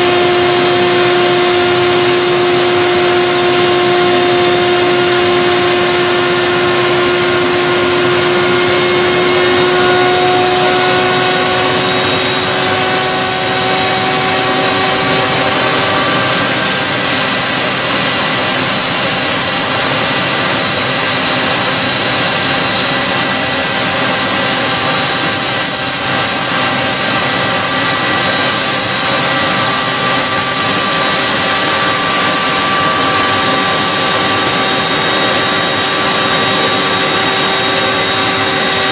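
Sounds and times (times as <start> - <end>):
jet engine whining: 0.0 - 38.9.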